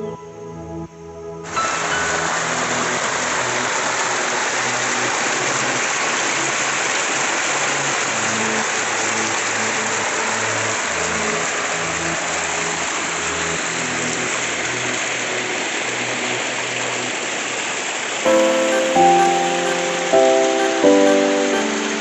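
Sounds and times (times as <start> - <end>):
stream cascading over rock: 1.5 - 22.0.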